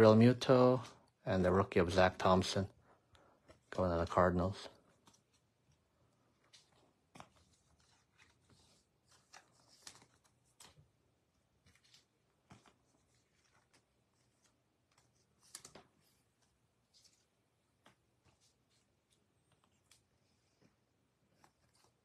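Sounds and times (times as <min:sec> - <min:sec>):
cards clicking and rustling: 0:03.4 - 0:22.0.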